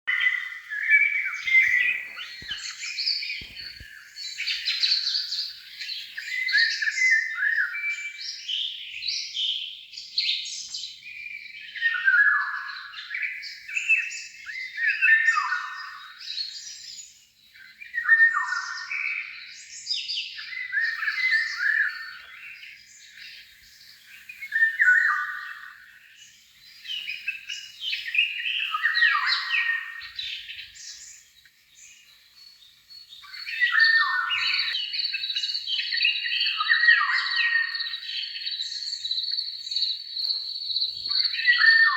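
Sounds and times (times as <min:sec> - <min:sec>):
songbird singing and chirping: 0:00.1 - 0:41.9.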